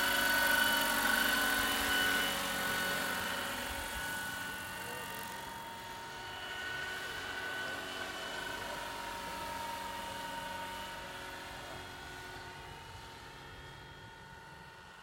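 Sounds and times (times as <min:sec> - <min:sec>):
model helicopter motor whine: 0:00.0 - 0:15.0.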